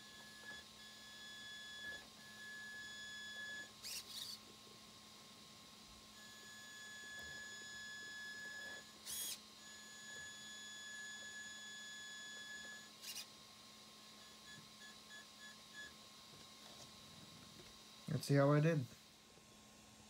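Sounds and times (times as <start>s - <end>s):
rc car motor whine: 0.0s - 4.7s, 5.9s - 18.8s.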